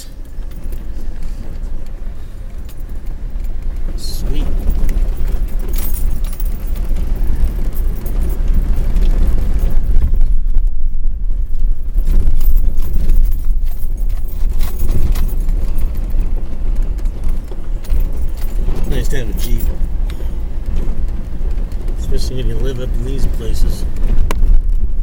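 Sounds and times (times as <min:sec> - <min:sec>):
engine and tyres rumbling: 0:00.0 - 0:25.0
light rattling: 0:00.0 - 0:25.0.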